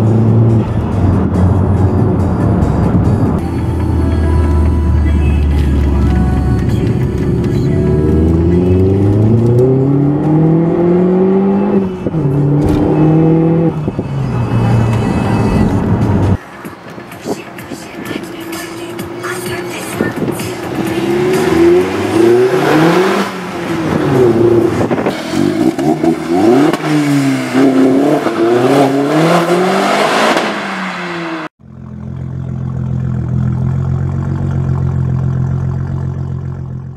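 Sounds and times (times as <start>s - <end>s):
car engines revving: 0.0s - 36.9s.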